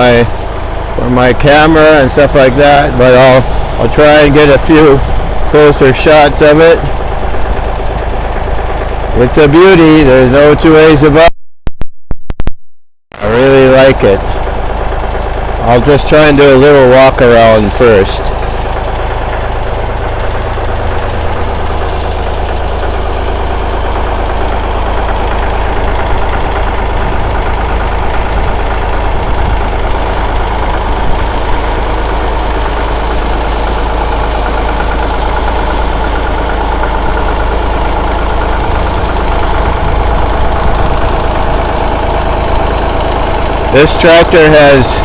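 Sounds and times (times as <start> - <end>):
tractor engine idling: 0.0 - 11.3, 13.2 - 45.0.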